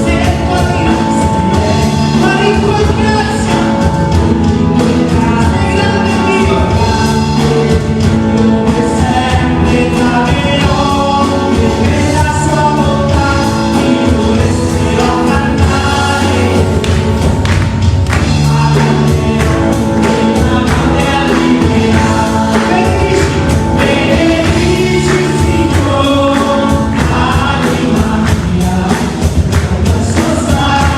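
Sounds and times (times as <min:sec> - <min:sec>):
band playing worship music: 0:00.0 - 0:30.9
person singing: 0:00.0 - 0:30.9.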